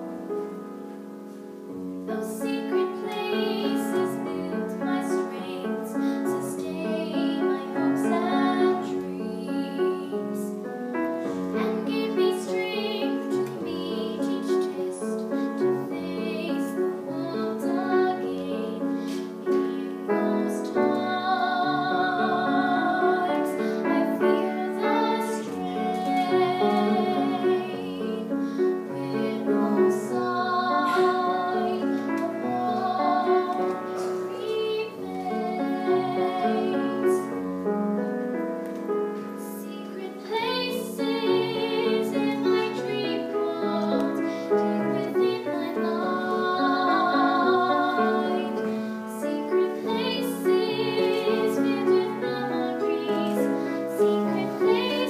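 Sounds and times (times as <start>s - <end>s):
soft piano accompaniment: 0.0s - 55.0s
woman singing with vibrato: 2.1s - 10.5s, 11.6s - 15.1s, 15.8s - 18.8s, 19.6s - 37.3s, 39.4s - 55.0s.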